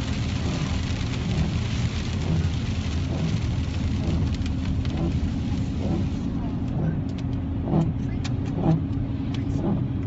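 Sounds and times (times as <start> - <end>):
heavy rain on car: 0.0 - 10.0
road and engine rumble: 0.0 - 10.0.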